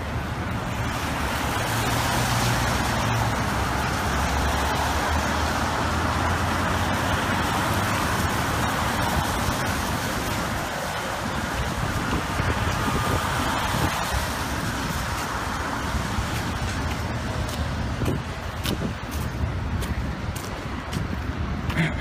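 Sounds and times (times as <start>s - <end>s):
passing vehicles hissing: 0.0s - 22.0s.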